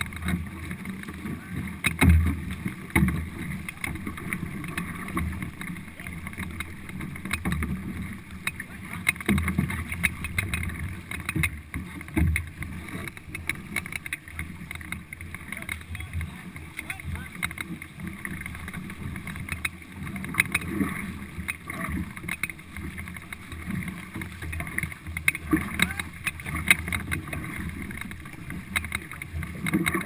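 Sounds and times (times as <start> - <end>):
paddles dipping and splashing: 0.0 - 30.0
water rushing along hull: 0.0 - 30.0.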